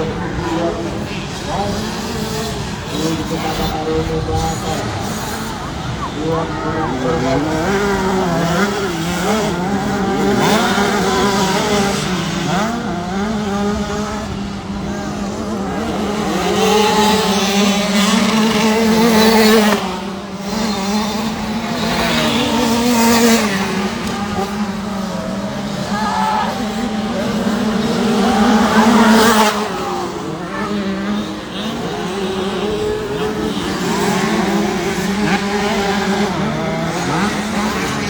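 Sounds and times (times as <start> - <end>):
two-stroke motocross bikes revving: 0.0 - 38.0.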